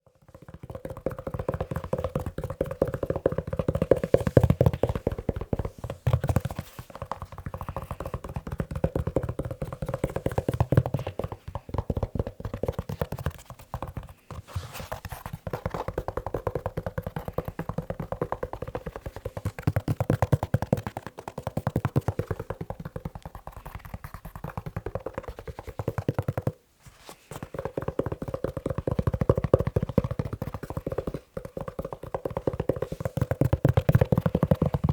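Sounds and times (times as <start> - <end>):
fingertips tapping on leather shoe: 0.1 - 26.6, 27.3 - 34.9.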